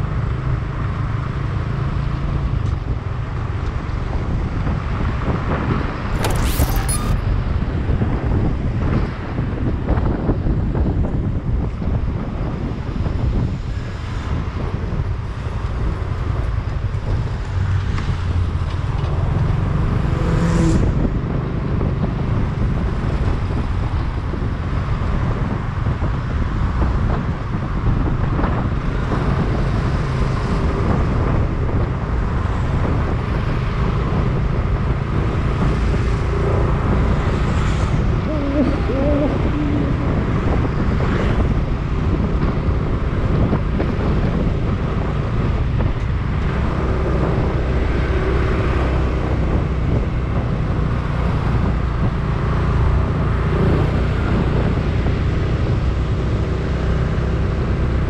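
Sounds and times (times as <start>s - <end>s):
street traffic rumble: 0.0s - 58.0s.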